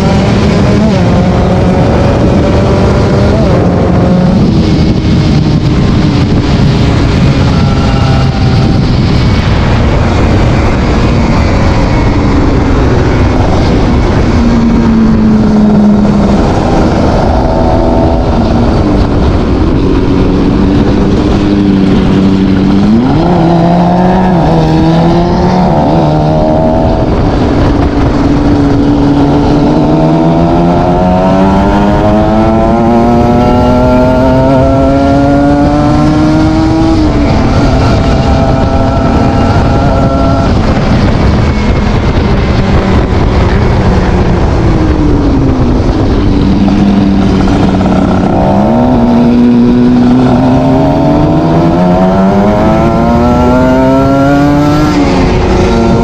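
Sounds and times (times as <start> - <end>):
motorcycle engine accelerating: 0.0 - 56.0
rough rushing noise: 0.0 - 56.0.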